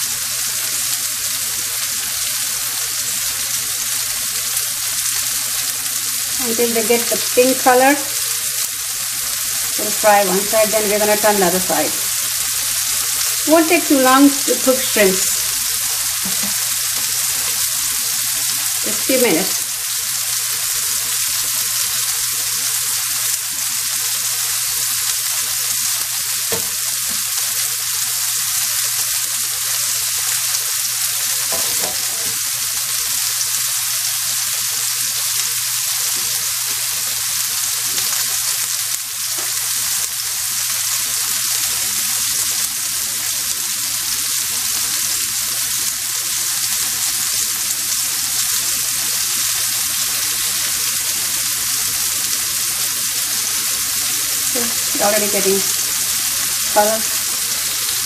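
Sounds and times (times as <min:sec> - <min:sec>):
shrimp sizzling in oil: 0:00.0 - 0:58.0.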